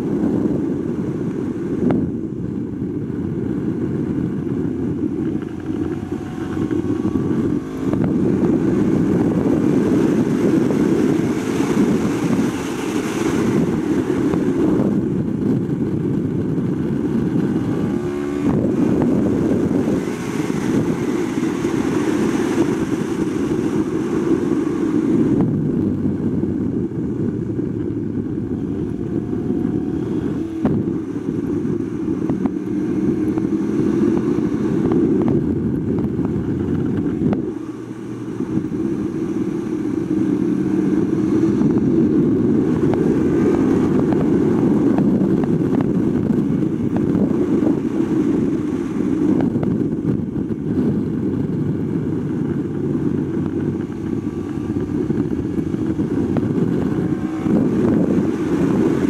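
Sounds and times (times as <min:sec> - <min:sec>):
motorcycle engine at speed: 0:00.0 - 0:59.0
wind rush on microphone: 0:00.0 - 0:59.0.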